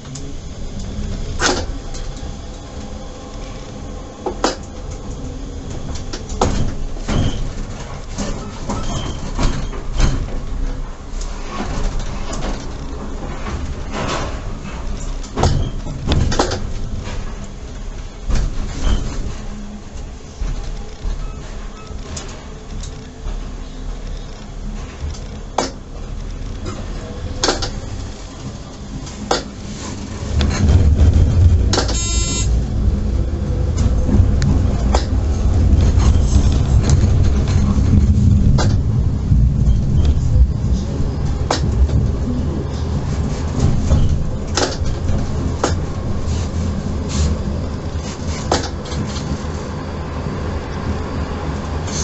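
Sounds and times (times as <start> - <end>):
tram running rumble: 0.0 - 52.0
wheels clicking on rails: 0.0 - 52.0.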